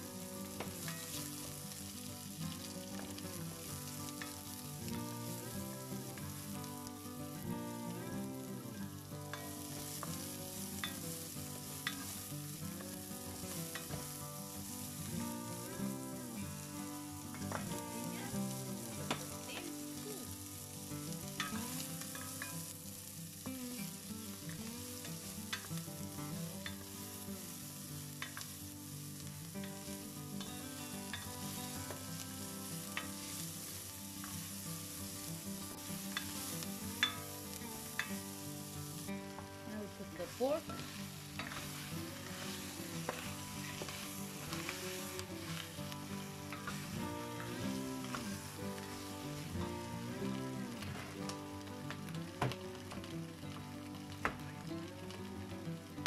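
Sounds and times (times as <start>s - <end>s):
onion and garlic sizzling: 0.0s - 56.0s.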